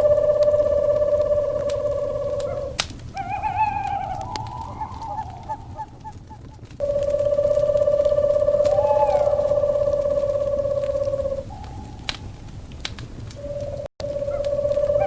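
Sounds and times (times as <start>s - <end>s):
owl trilling: 0.0s - 12.5s, 13.3s - 15.0s
wavering owl call: 0.0s - 12.5s, 13.3s - 15.0s
fire crackling: 0.0s - 15.0s.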